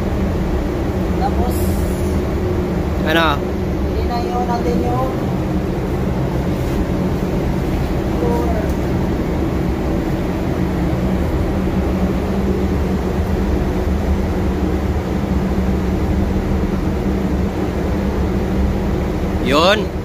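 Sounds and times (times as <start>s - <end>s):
constant hum: 0.0s - 20.0s
low mechanical drone: 0.0s - 20.0s.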